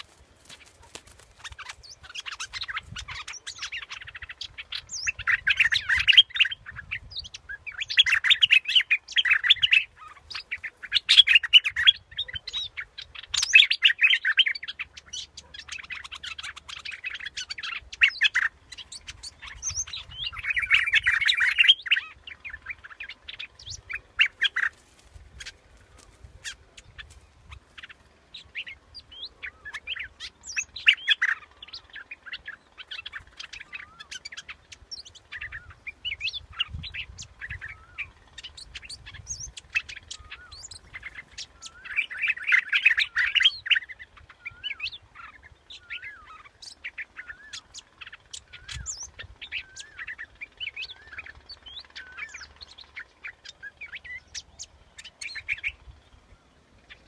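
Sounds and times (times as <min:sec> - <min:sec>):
bird chirping and warbling: 0:00.0 - 0:57.0.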